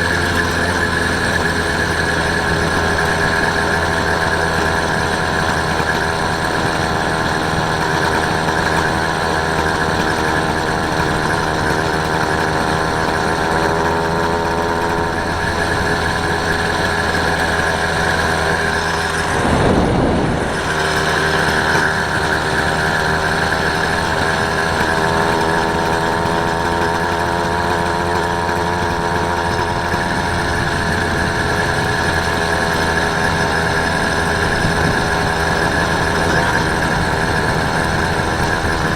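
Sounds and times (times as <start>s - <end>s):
small motorbike engine running: 0.0s - 38.9s.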